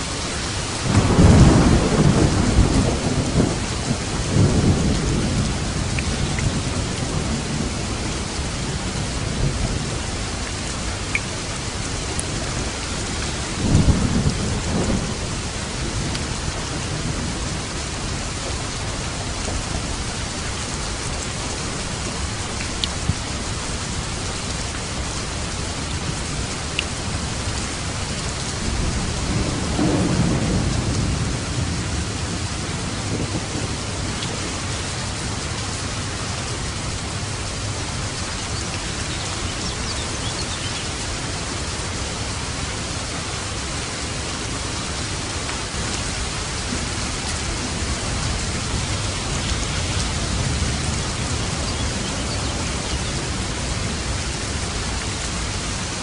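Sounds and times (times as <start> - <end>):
steady rain falling: 0.0 - 56.0
thunder rumble: 0.4 - 11.0, 12.1 - 23.4, 25.4 - 41.4, 45.7 - 56.0.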